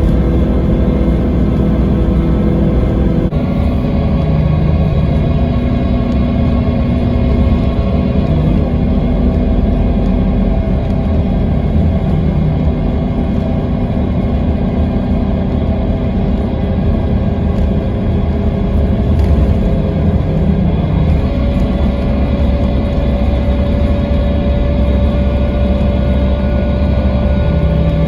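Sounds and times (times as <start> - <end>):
diesel coach engine running: 0.0 - 28.0.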